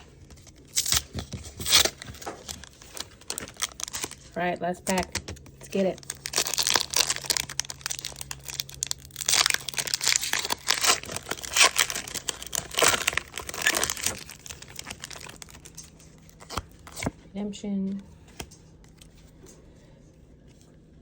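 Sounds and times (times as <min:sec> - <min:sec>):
foil wrapper crinkling and tearing: 0:00.0 - 0:17.2.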